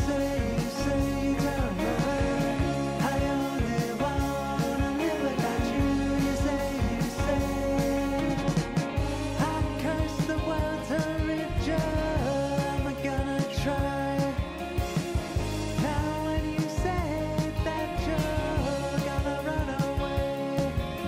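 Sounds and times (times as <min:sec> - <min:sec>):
song with singing voice: 0:00.0 - 0:21.0
steady drum beat: 0:00.0 - 0:21.0.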